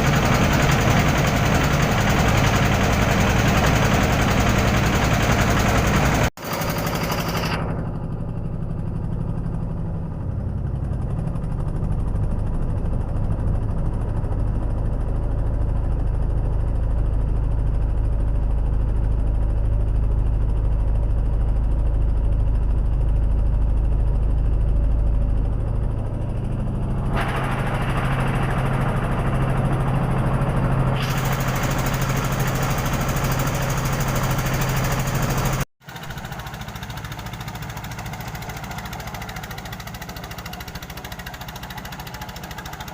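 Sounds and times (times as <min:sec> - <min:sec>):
engine chugging: 0:00.0 - 0:42.9.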